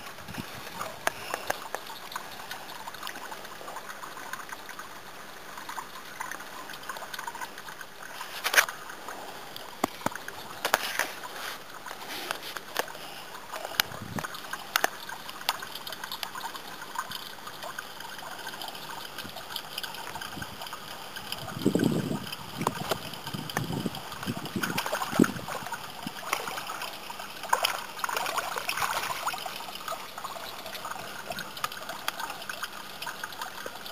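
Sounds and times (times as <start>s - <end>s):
water trickling in pond: 0.0s - 33.9s.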